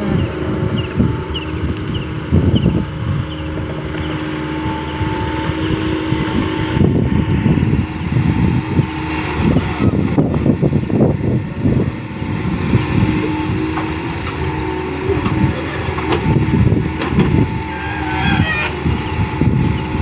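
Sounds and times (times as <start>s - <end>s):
excavator diesel engine under load: 0.0s - 20.0s
hydraulic whine: 0.0s - 20.0s.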